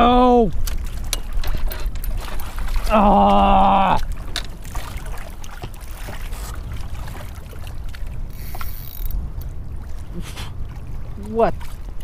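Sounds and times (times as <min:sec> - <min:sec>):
choppy water slapping kayak: 0:00.0 - 0:12.0
wind: 0:00.0 - 0:12.0.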